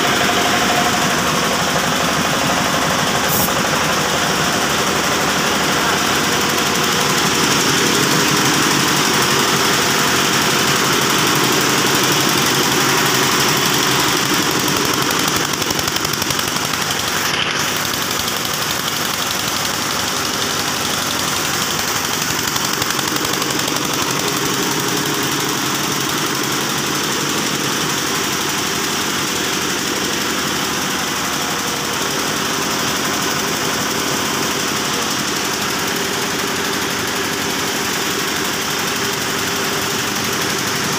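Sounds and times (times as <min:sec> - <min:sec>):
air compressor pulsing: 0:00.0 - 0:40.9
diesel engine running: 0:00.0 - 0:40.9.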